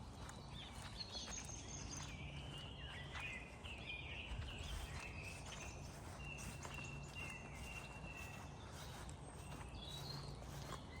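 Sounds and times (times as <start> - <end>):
faint footsteps: 0.0 - 11.0.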